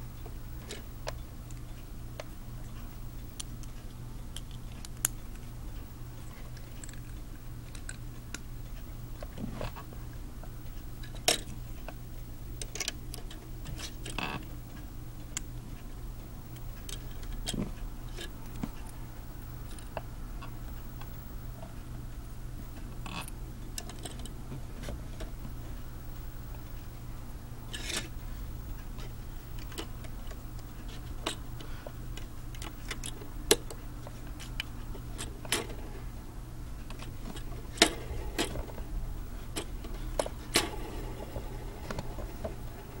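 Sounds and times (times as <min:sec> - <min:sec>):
low electrical hum: 0:00.0 - 0:43.0.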